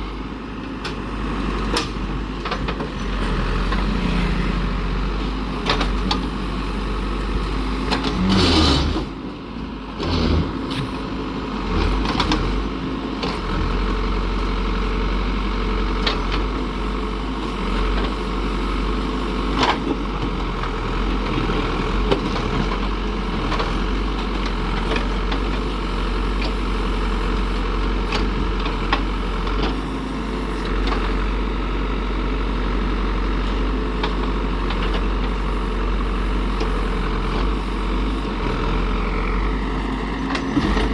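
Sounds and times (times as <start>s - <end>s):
construction machine diesel engine: 0.0s - 40.9s.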